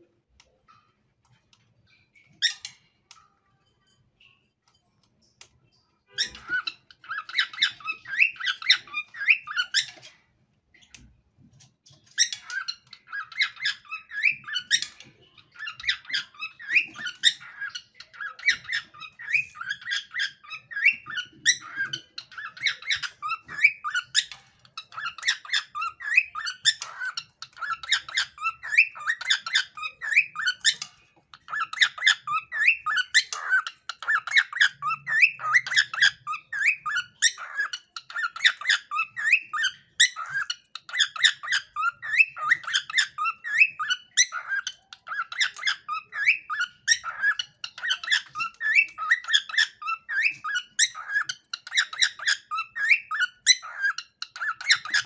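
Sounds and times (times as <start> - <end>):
cockatiel chattering and chirping: 0.4 - 3.2, 6.1 - 10.2, 11.9 - 55.0.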